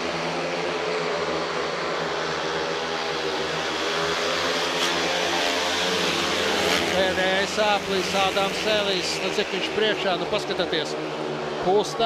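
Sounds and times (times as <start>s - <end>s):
motorcycles racing high-revving: 0.0s - 12.0s.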